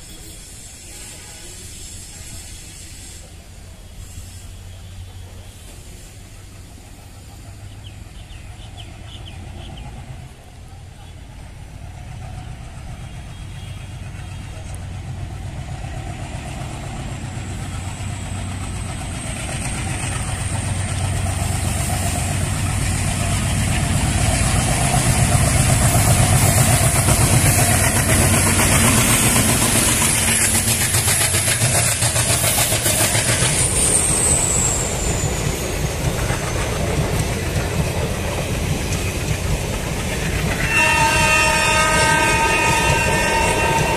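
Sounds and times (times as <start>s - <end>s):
diesel locomotive engine chugging: 0.0s - 43.9s.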